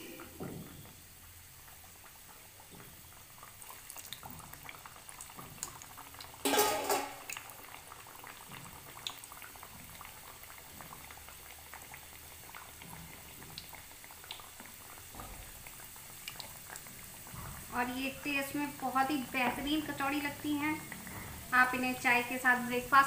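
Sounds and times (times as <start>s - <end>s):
oil bubbling and crackling: 0.0s - 23.0s.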